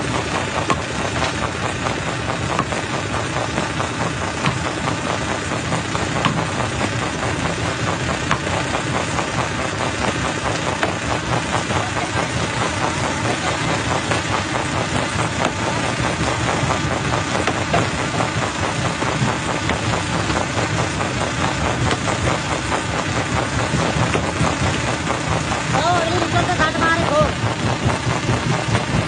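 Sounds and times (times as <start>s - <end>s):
jaw crusher mechanical drone: 0.0s - 29.0s.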